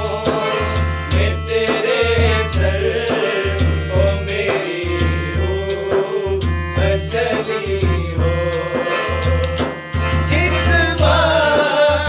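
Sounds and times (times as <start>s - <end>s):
harmonium: 0.0s - 12.0s
person singing devotional song: 0.0s - 12.0s.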